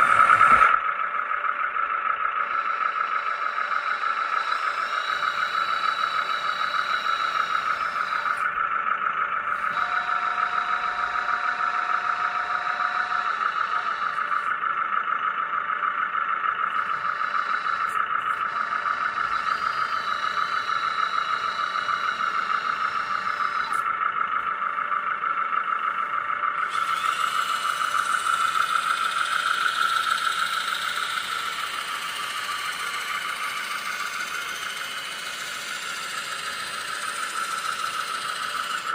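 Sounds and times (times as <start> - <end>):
hydraulic pump whining: 0.0 - 38.9.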